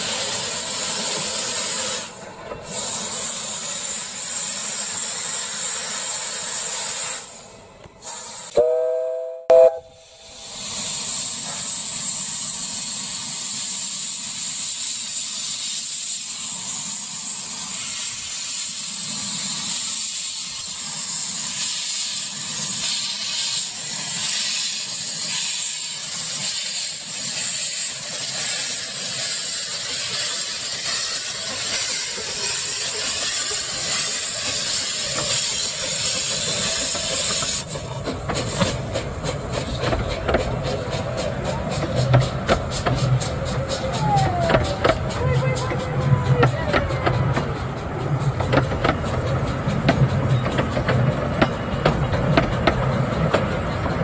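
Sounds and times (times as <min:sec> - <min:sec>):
steam hissing: 0:00.0 - 0:54.0
train running on track: 0:00.0 - 0:54.0.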